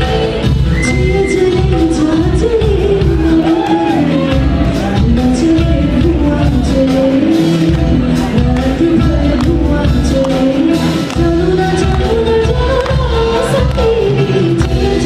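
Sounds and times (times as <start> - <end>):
live band music with singing: 0.0 - 15.0.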